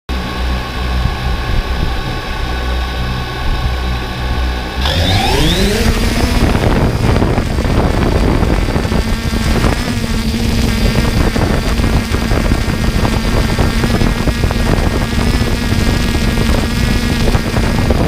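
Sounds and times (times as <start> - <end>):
rushing wind noise: 0.7 - 18.0
drone motors whining: 2.0 - 18.0.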